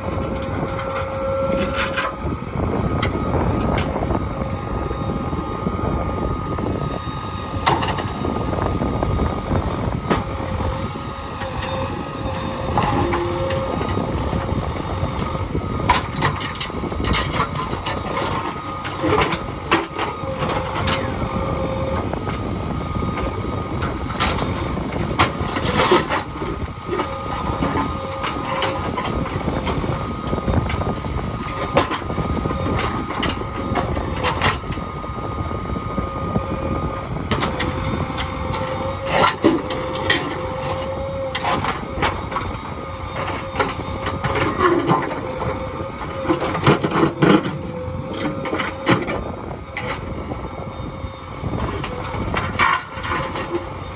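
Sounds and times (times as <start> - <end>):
backhoe diesel engine under load: 0.0 - 53.9.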